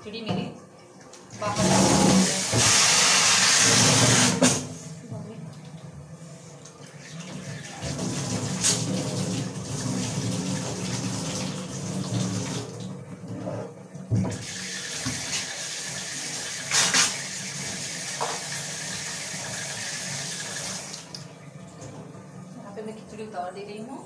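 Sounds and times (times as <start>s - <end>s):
tap water running: 1.1s - 4.7s, 6.6s - 22.9s.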